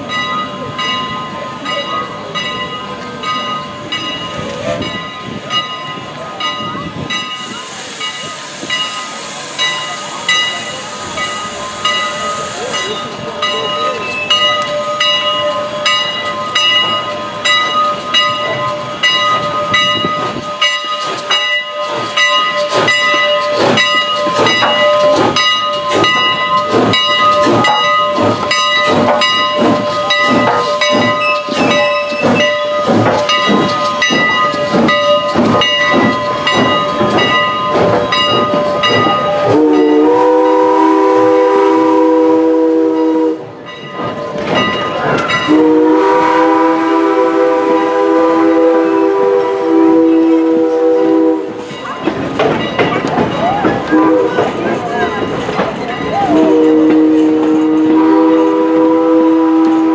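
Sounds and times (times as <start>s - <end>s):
multi-chime steam whistle: 0.0s - 44.0s, 44.8s - 51.9s, 53.4s - 54.6s, 56.0s - 59.9s
steam hissing: 3.6s - 52.8s.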